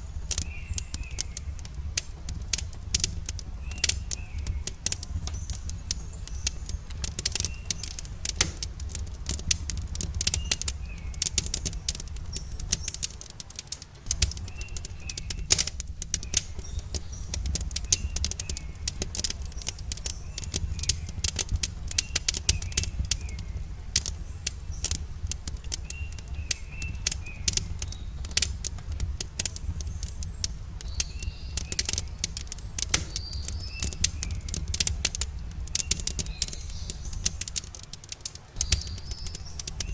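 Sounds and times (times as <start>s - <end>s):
campfire crackling and popping: 0.0s - 39.9s
low steady rumble: 0.0s - 39.9s.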